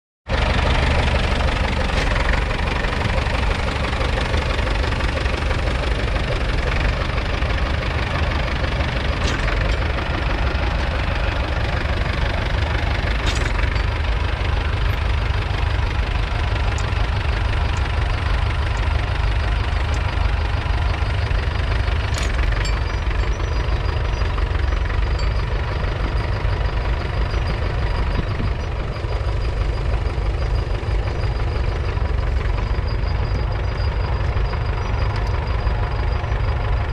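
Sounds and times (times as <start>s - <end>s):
tractor diesel engine running: 0.3s - 36.9s.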